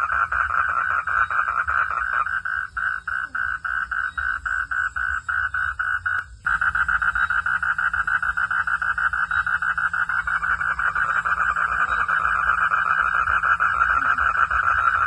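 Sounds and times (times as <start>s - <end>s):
frogs calling: 0.0s - 15.0s.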